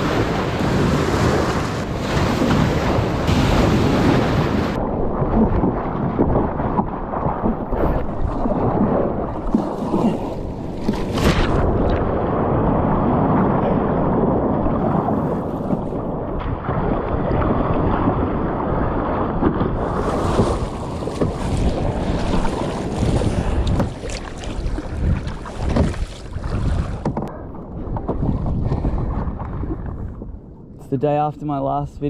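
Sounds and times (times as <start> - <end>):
water rushing and splashing: 0.0 - 27.2
wind rumbling on microphone: 0.0 - 32.0.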